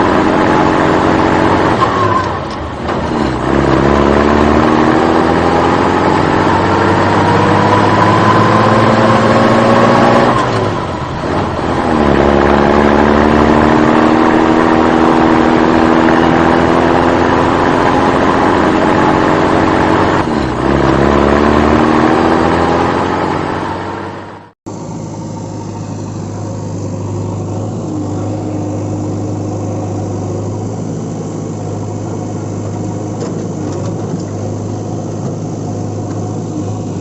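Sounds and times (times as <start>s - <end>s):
engine running under load: 0.0s - 37.0s.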